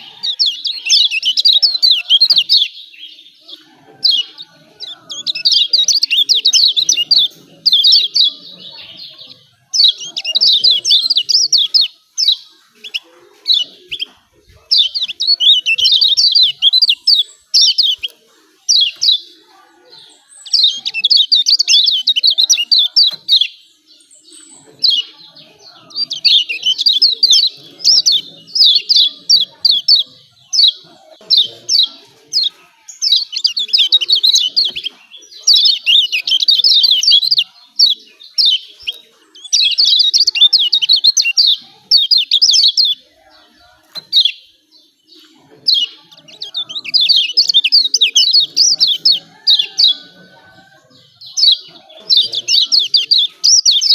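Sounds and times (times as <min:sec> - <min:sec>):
bird chirping song: 0:00.0 - 0:53.9.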